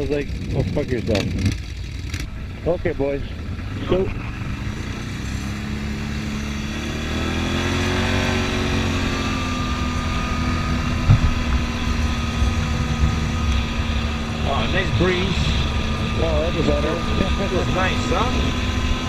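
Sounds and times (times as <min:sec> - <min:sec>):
wind rumbling on microphone: 0:00.0 - 0:07.3, 0:08.0 - 0:19.0
atv engine pulling away: 0:00.0 - 0:19.0.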